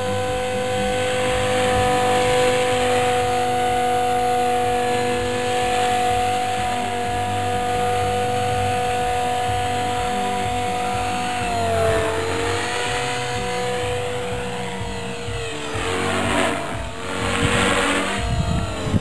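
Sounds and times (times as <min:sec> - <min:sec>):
model helicopter motor whine: 0:00.0 - 0:19.0
rotor wash noise: 0:00.0 - 0:19.0.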